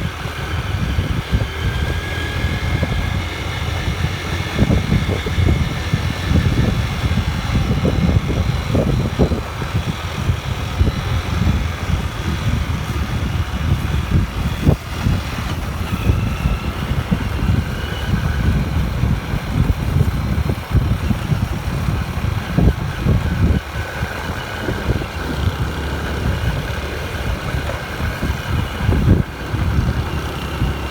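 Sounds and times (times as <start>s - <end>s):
motorbike engine running: 0.0s - 30.9s.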